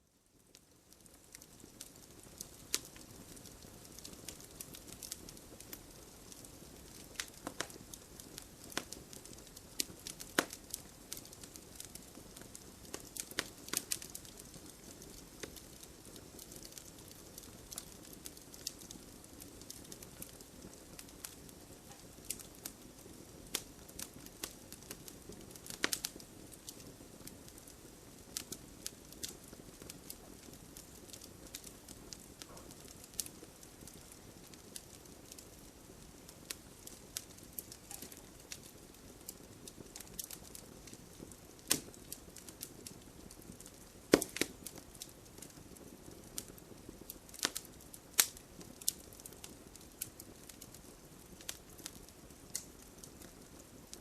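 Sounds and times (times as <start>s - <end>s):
wood fire crackling and popping: 0.2s - 54.0s.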